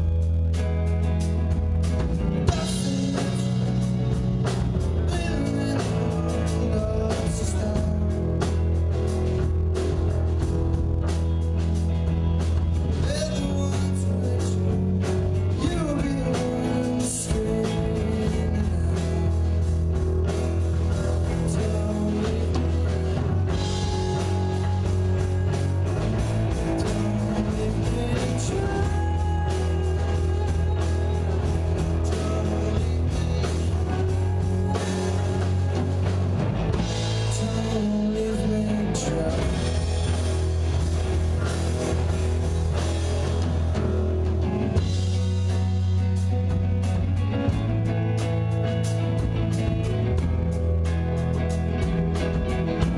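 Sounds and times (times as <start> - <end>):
bass guitar: 0.0 - 52.9
drum kit: 0.0 - 52.9
electric guitars: 0.0 - 52.9.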